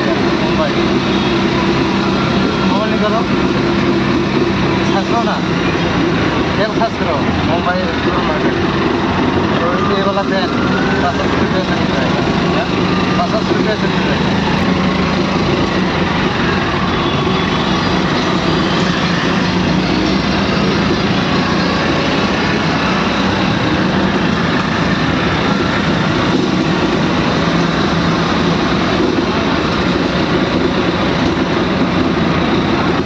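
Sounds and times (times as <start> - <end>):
vehicle engine and road hum: 0.0 - 33.0.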